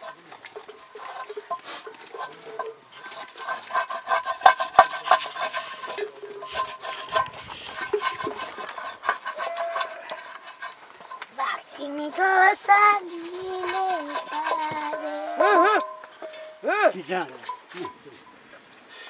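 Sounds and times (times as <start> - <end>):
wooden stick scraping cooking pot: 0.0 - 18.0.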